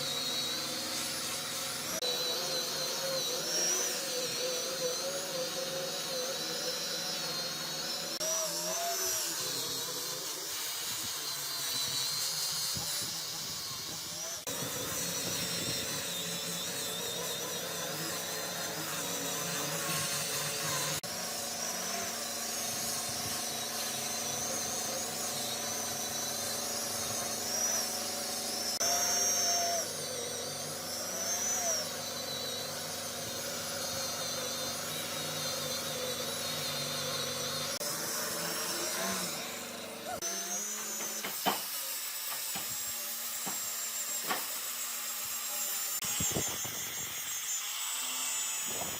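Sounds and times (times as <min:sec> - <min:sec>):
power tool whining: 0:00.0 - 0:48.9.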